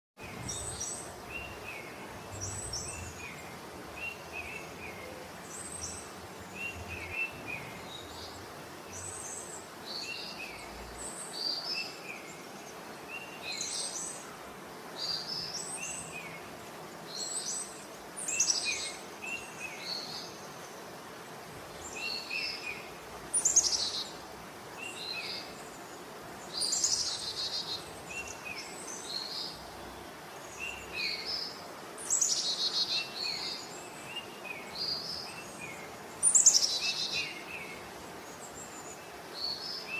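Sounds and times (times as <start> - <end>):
faint steady hiss: 0.2 - 39.9
small birds chirping and singing: 0.2 - 39.9.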